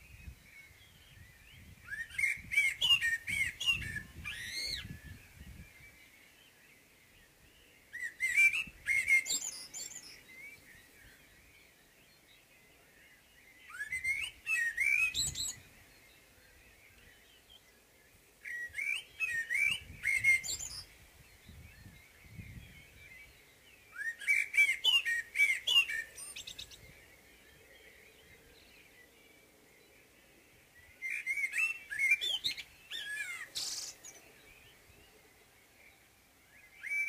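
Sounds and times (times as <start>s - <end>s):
blackbird singing: 0.0s - 37.0s
faint birds chirping: 0.0s - 37.0s.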